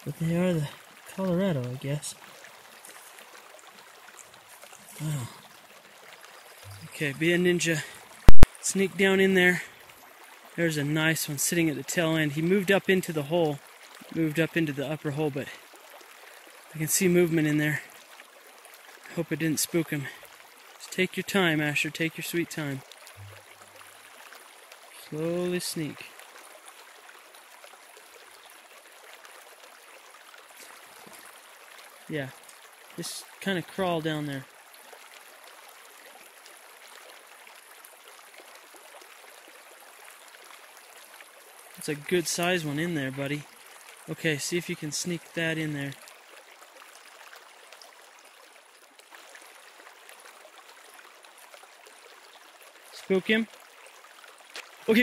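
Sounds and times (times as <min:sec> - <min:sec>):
creek running over rocks: 0:00.0 - 0:55.0.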